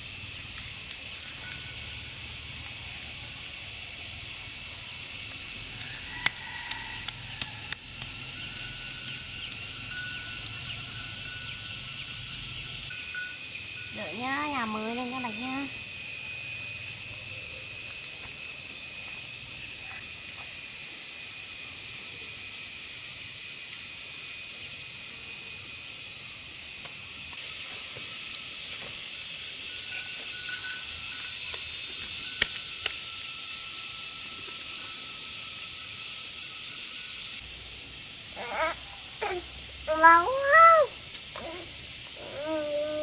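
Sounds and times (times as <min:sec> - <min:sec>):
insects shrilling: 0:00.0 - 0:43.0.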